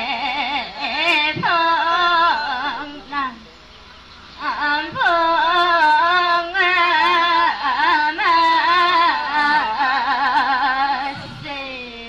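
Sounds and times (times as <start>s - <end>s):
person singing unaccompanied: 0.0s - 3.5s, 4.2s - 12.0s.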